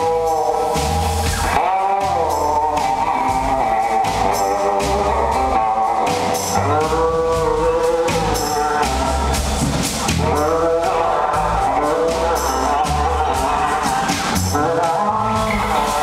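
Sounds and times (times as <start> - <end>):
bass: 0.0 - 16.0
drums with cymbal strokes: 0.0 - 16.0
electric guitar: 0.0 - 16.0
live rock band playing: 0.0 - 16.0.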